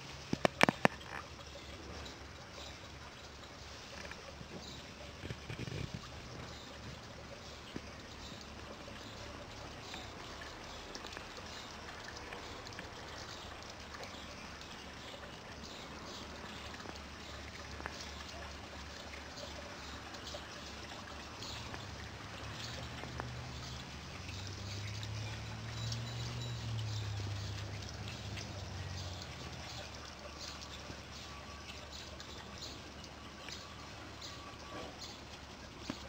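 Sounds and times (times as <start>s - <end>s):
water trickling: 0.0s - 36.0s.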